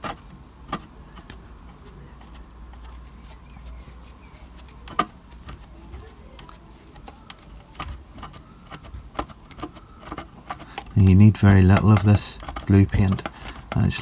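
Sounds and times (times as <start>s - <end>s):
sponge dabbing paint: 0.0s - 14.0s.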